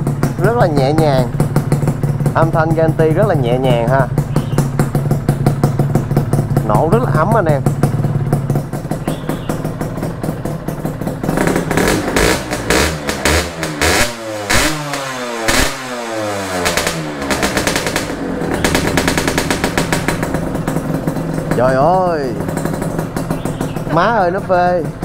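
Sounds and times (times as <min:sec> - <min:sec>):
two-stroke engine idling and revving: 0:00.0 - 0:25.0.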